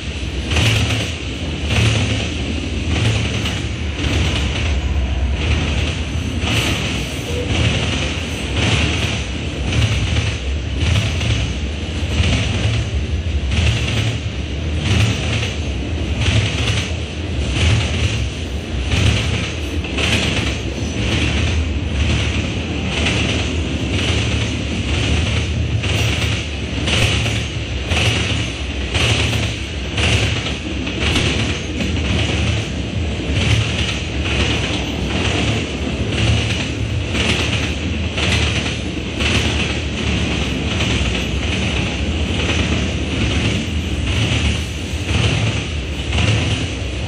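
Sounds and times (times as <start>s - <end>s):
diesel locomotive passing: 0.0s - 47.0s
freight train rumbling past: 0.0s - 47.0s
train wheels clattering: 0.0s - 47.0s.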